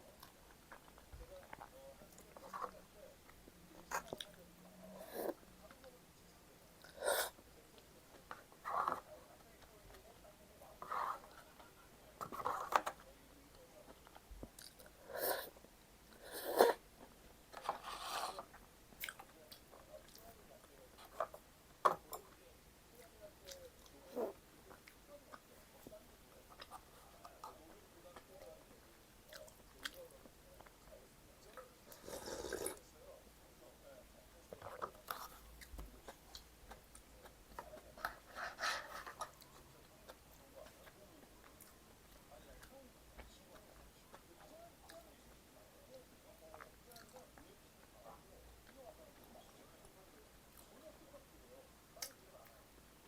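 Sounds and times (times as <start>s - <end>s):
chewing and crunching food: 0.0s - 6.0s, 12.2s - 33.1s, 33.9s - 52.6s.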